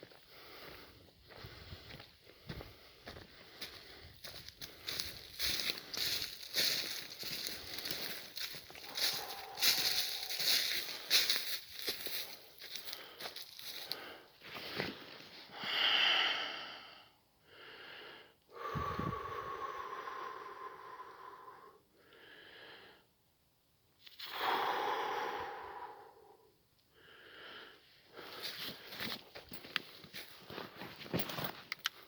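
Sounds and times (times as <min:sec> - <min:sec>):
heavy wheezy breathing: 0:00.3 - 0:23.1, 0:24.2 - 0:29.2.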